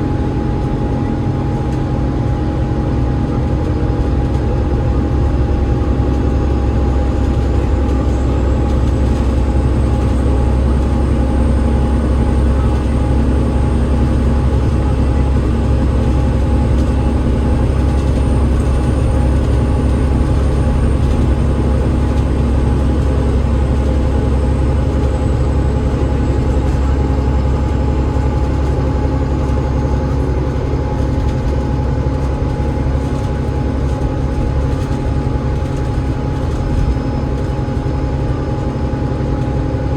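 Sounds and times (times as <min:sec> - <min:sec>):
bus diesel engine rumbling: 0:00.0 - 0:39.9
steady engine whine: 0:00.0 - 0:39.9.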